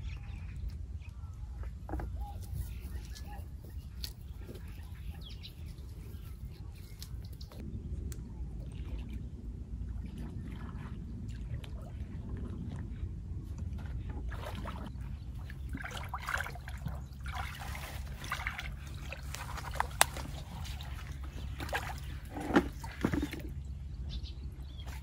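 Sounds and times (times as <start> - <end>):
low rumble: 0.0 - 25.0
muddy water sloshing and splashing: 0.2 - 25.0.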